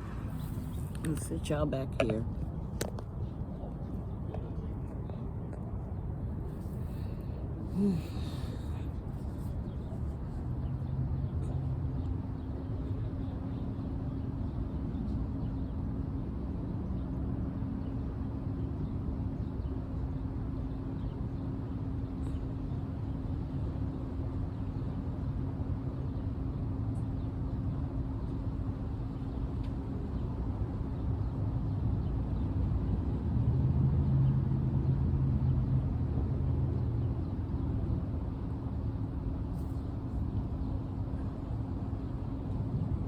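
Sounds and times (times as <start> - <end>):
low outdoor rumble: 0.0 - 43.0
steady low hum: 0.0 - 43.0.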